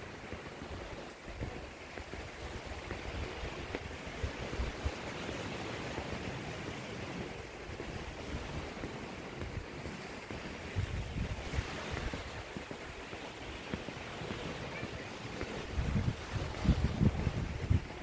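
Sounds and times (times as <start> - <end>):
waves washing on a beach: 0.0 - 18.0
wind buffeting microphone: 0.0 - 18.0.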